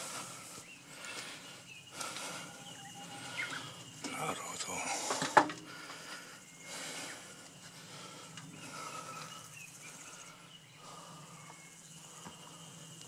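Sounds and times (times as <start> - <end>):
faint birdsong: 0.0 - 13.0
steady high hum: 0.0 - 13.0.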